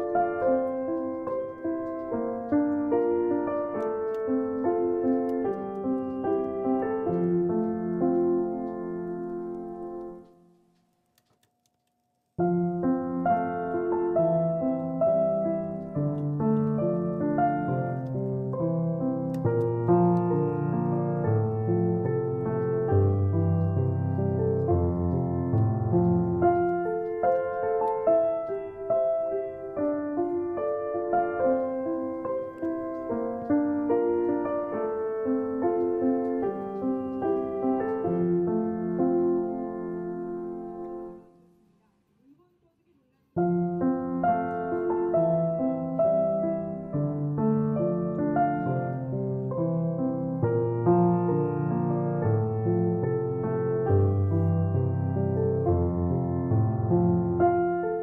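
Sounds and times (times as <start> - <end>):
gentle piano melody: 0.0 - 11.3, 12.3 - 41.8, 43.4 - 58.0.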